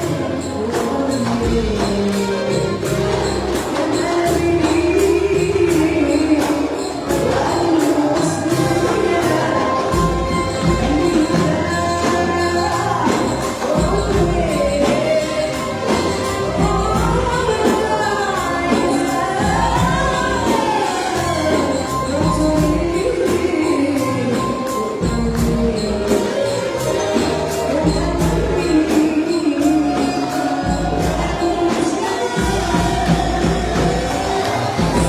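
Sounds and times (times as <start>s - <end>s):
tambourine beat: 0.0s - 35.0s
woman singing: 0.0s - 35.0s.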